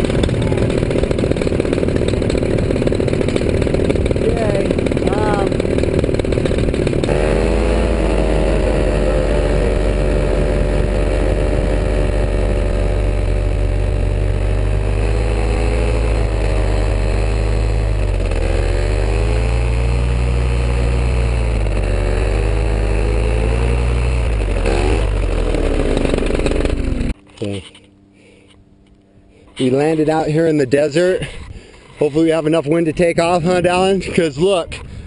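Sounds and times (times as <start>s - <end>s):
paraglider engine running: 0.0s - 28.6s.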